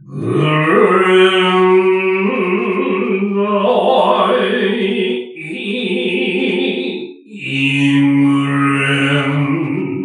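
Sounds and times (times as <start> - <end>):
person chanting held notes: 0.0 - 10.0.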